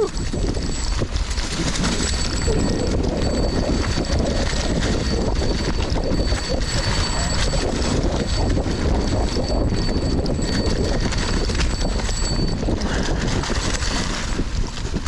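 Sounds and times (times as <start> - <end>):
bike rattling over rough trail: 0.0 - 15.0
wind rumble on microphone: 0.0 - 15.0.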